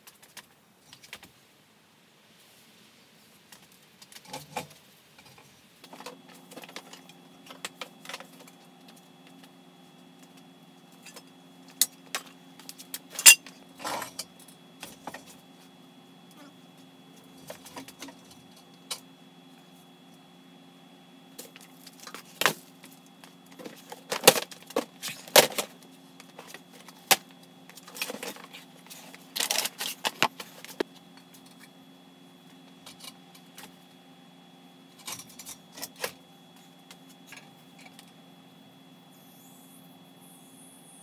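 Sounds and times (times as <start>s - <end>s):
steady low hum: 3.0s - 41.0s.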